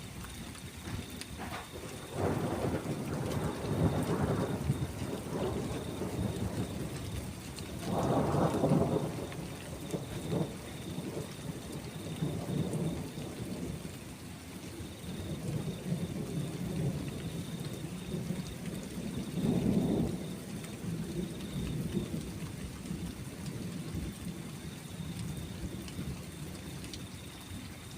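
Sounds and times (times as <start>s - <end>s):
steady rain: 0.0s - 27.9s
rolling thunder: 0.8s - 13.9s, 14.8s - 26.6s.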